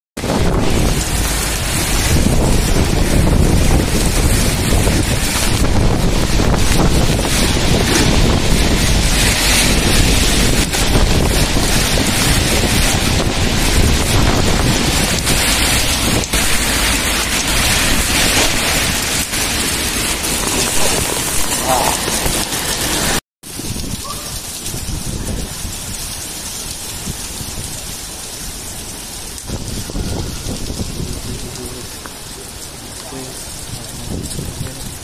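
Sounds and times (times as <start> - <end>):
heavy rain hissing: 0.2 - 35.0
wind gusts on microphone: 0.2 - 35.0.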